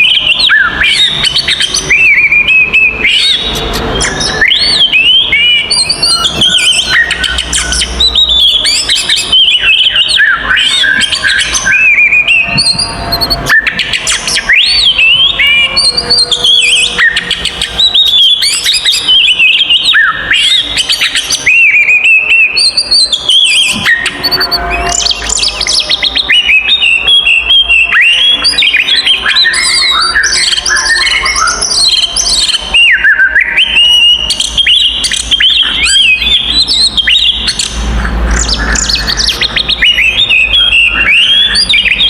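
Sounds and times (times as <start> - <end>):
magpie-robin singing whistles and chirps: 0.0 - 42.0.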